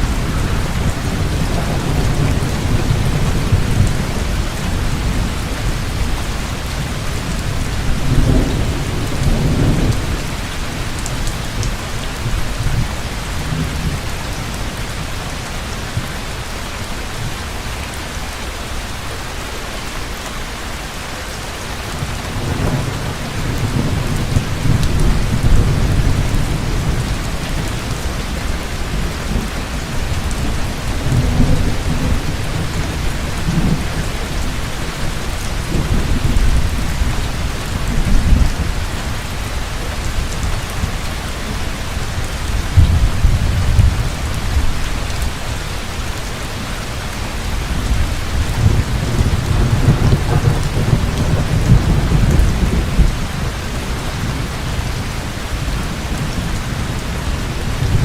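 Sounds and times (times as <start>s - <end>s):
rolling thunder rumbling: 0.0s - 14.2s, 22.2s - 46.2s, 47.4s - 58.0s
heavy rain falling: 0.0s - 58.0s.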